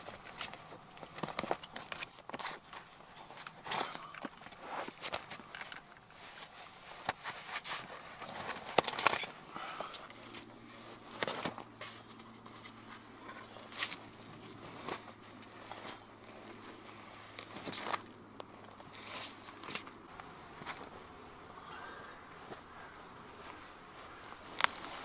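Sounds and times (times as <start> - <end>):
canvas bedroll rustling: 0.0 - 21.1, 22.3 - 25.0.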